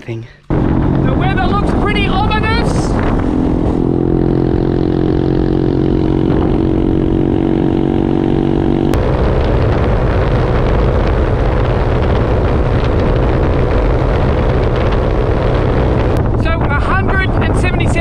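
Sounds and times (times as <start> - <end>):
motorcycle engine running: 0.5 - 18.0
wind on microphone: 0.5 - 18.0.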